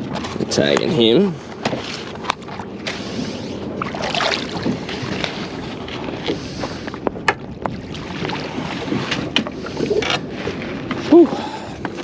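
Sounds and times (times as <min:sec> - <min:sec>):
water sloshing and splashing: 0:00.0 - 0:12.0
wind on microphone: 0:00.0 - 0:12.0.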